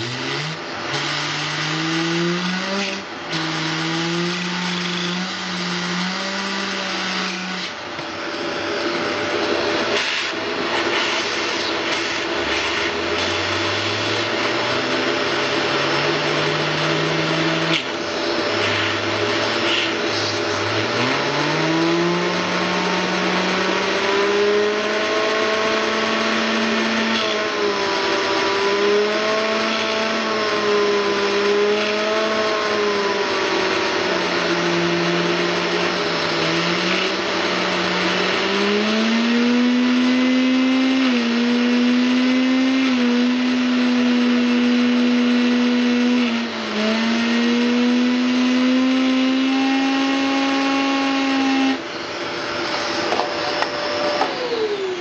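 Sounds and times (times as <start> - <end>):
electric blower motor hum: 0.0 - 55.0.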